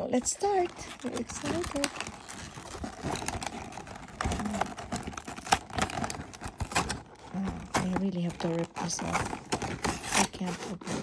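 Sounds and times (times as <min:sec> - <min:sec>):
plastic packaging clicks and crinkles: 0:00.0 - 0:11.0.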